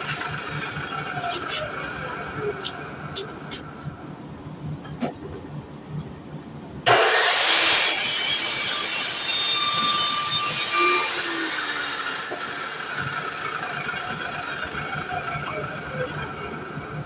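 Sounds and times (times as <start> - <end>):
miter saw motor whining: 0.0 - 3.6, 6.9 - 17.0.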